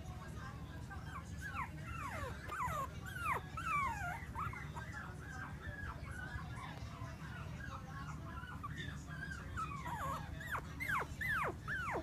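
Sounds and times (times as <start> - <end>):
puppies whimpering and squeaking: 1.0 - 6.8, 7.6 - 12.0.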